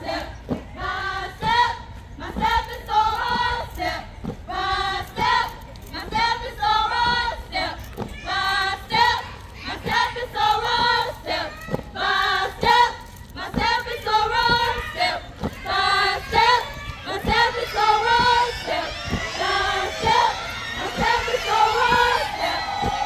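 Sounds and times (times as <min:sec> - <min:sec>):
women chanting in unison: 0:00.0 - 0:23.0.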